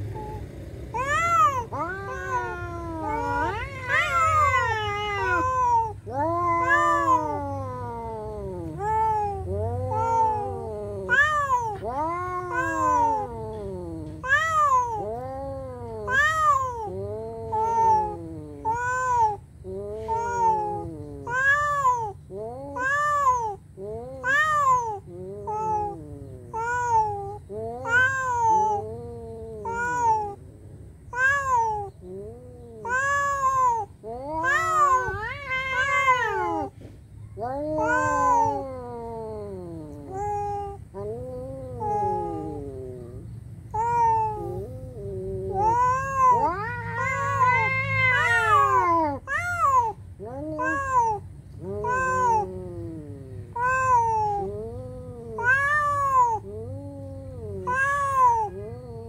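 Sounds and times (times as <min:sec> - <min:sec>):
cats yowling: 0:00.0 - 0:30.4, 0:31.0 - 0:59.0.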